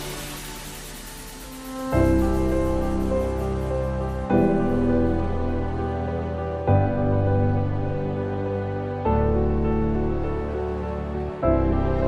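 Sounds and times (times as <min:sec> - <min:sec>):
slow sustained chords music: 0:00.0 - 0:12.0.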